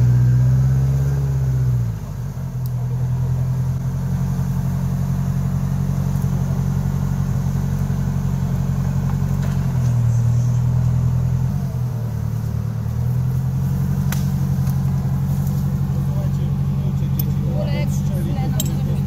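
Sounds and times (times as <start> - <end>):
off-road vehicle engine: 0.0 - 19.0.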